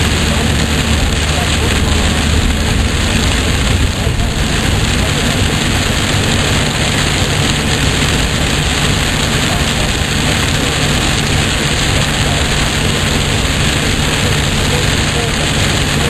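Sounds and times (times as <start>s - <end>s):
car road noise: 0.0s - 16.0s
heavy rain on a car: 0.0s - 16.0s.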